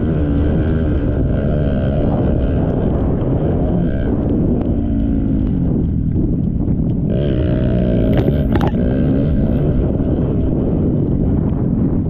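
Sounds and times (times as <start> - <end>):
motocross bike engines: 0.0 - 12.0.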